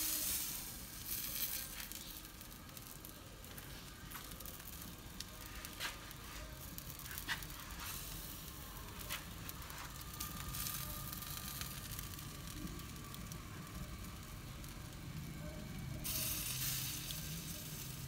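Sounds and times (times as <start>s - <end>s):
meat sizzling on spit: 0.0s - 18.0s.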